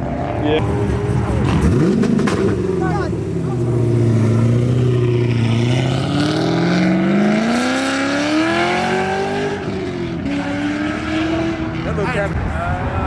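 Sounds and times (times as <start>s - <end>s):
car engine accelerating: 0.0s - 12.5s.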